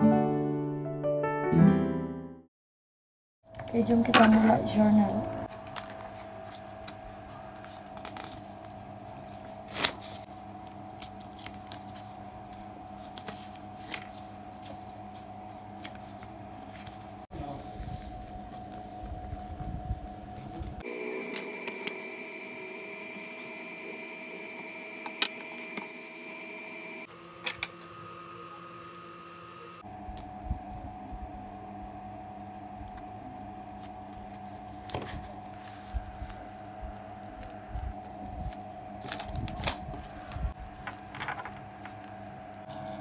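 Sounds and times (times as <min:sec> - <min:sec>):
faint hum: 0:03.5 - 0:43.0.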